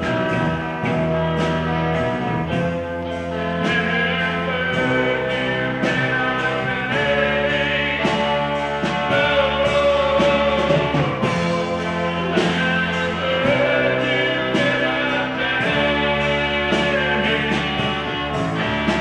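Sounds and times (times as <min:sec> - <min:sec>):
drum and cymbal hits: 0:00.0 - 0:19.0
rock band playing: 0:00.0 - 0:19.0
sustained electric guitar notes: 0:00.0 - 0:19.0.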